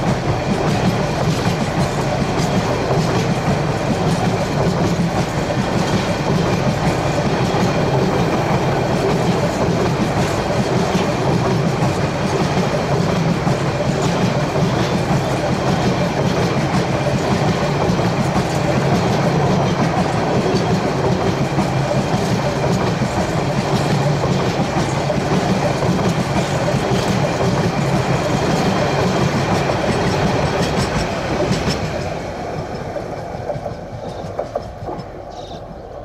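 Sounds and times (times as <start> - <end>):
train wheels clattering over rail joints: 0.0 - 36.0.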